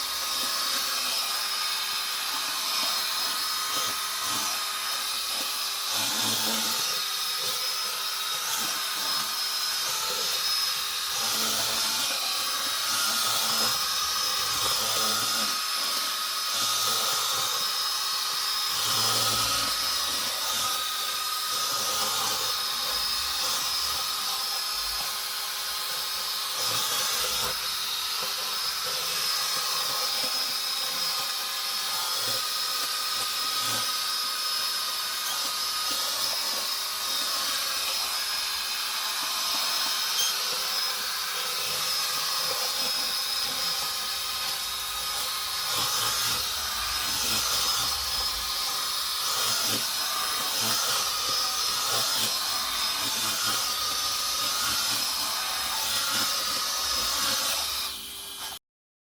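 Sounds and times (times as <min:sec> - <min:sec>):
robot vacuum cleaner running: 0:00.0 - 0:58.6.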